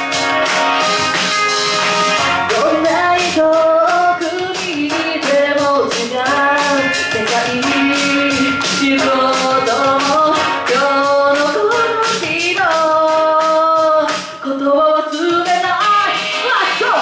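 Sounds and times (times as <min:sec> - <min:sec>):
backing track with steady beat: 0:00.0 - 0:17.0
woman singing into microphone: 0:02.4 - 0:17.0.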